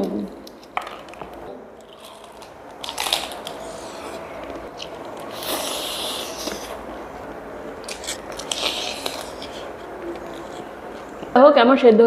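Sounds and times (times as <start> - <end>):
crunching and chewing fried chicken: 0.3 - 11.4.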